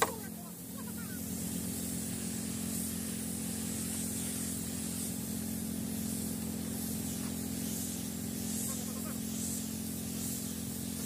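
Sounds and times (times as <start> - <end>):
paint spray gun hissing: 0.0 - 11.0.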